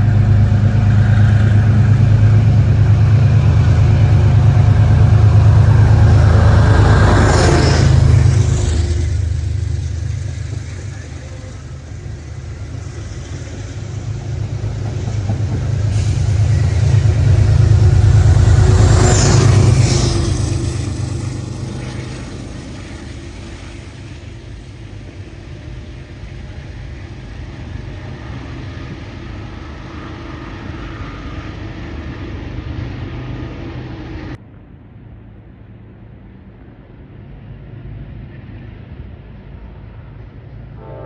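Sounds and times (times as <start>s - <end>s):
background rumble: 0.0s - 41.0s
train rumbling past: 0.0s - 41.0s.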